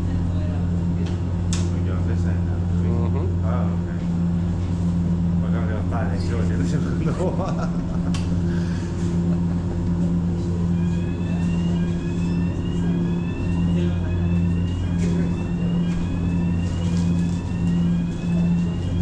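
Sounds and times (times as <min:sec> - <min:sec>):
large engine humming: 0:00.0 - 0:19.0.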